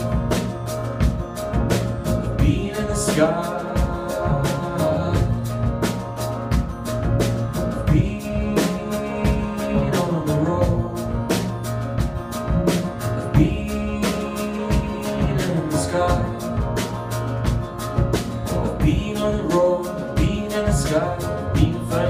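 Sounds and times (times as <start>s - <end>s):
acoustic guitar: 0.0s - 22.0s
double bass: 0.0s - 22.0s
drum kit beat: 0.0s - 22.0s
keyboard: 0.0s - 22.0s.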